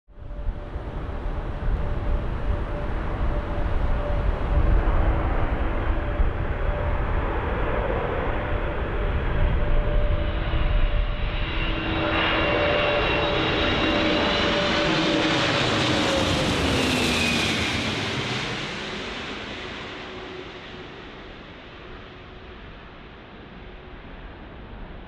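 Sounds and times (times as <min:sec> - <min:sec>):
jet aircraft roaring overhead: 0:00.2 - 0:25.0.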